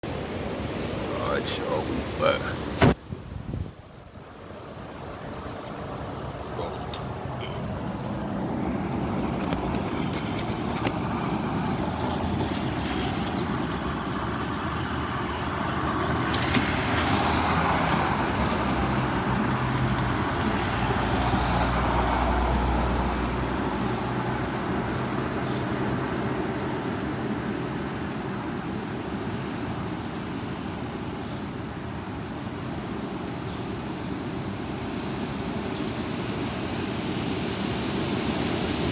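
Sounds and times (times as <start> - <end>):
strong wind gusts: 0.1 - 38.9.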